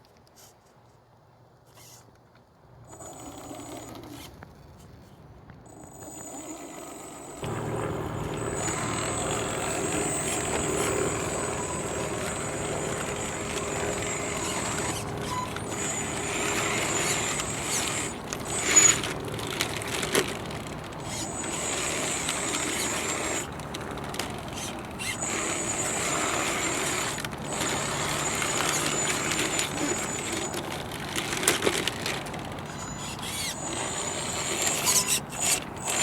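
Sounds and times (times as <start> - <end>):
electric motor whine: 7.1 - 36.0.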